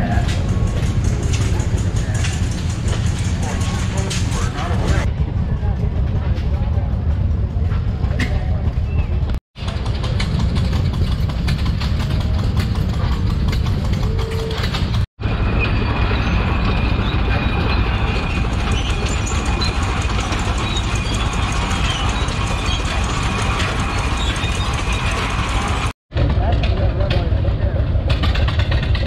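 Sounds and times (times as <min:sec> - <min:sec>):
steel tracks clattering: 0:00.0 - 0:05.1, 0:06.2 - 0:29.0
tractor engine running: 0:00.0 - 0:29.0.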